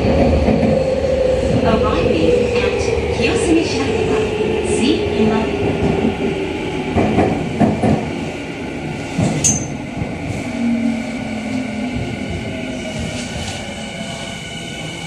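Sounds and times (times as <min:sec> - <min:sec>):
subway train rumbling in tunnel: 0:00.0 - 0:15.0.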